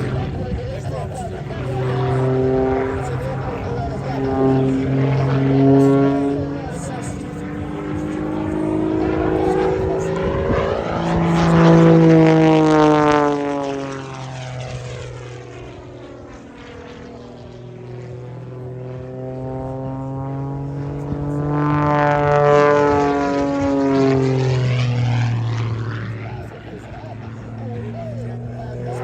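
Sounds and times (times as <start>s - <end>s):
propeller plane flying past: 0.0s - 29.0s.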